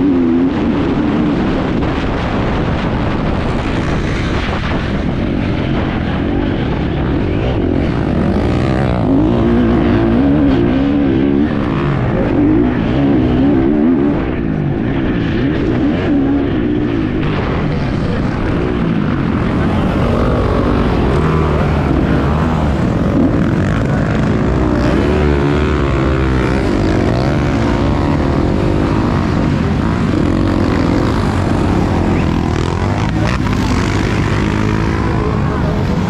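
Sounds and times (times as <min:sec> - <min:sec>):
motorcycle engine revving: 0:00.0 - 0:36.0
wind noise while riding: 0:00.0 - 0:36.0.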